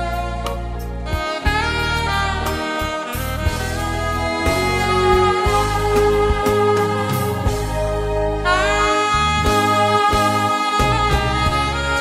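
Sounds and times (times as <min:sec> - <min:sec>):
backing track with bass and beat: 0:00.0 - 0:12.0
soprano saxophone melody: 0:00.0 - 0:12.0.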